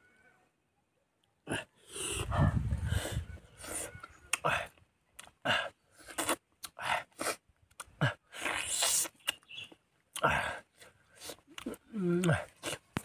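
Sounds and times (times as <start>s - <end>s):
man chewing: 1.9s - 13.0s.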